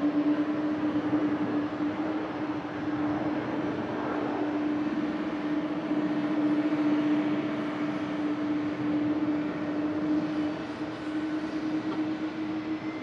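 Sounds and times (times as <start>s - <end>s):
jet engine roar at takeoff: 0.0s - 13.0s.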